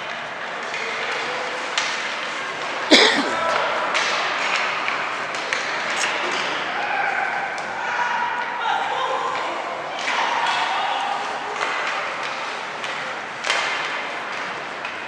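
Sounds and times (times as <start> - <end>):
crowd chatter in echoing hall: 0.0 - 15.0.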